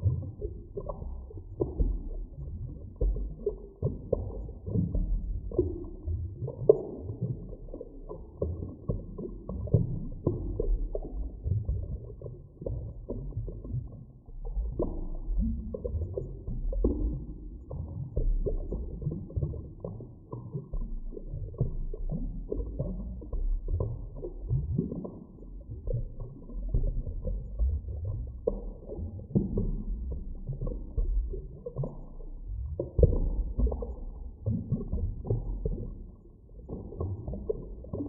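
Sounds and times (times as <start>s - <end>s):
underwater low rumble: 0.0s - 38.0s.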